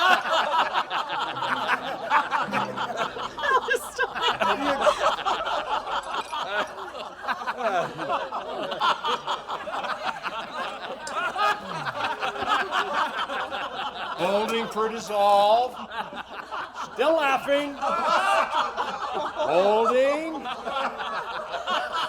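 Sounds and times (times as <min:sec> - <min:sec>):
group of men laughing: 0:00.0 - 0:22.0.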